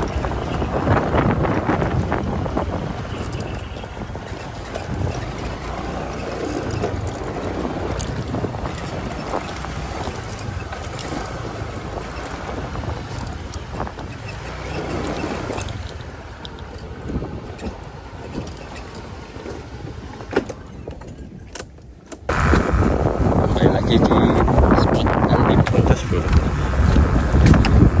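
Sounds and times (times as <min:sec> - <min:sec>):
road vehicle rumble: 0:00.0 - 0:28.0
wind rushing over microphone: 0:00.0 - 0:28.0.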